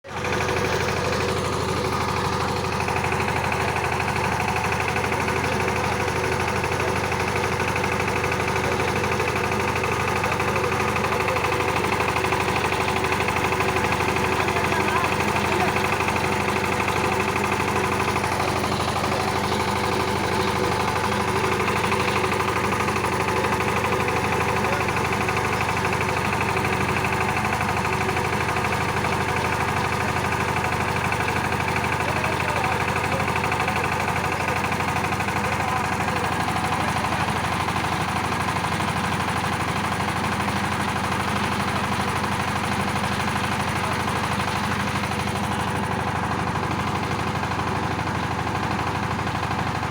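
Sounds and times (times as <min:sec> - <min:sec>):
diesel engine running steadily: 0:00.0 - 0:49.9.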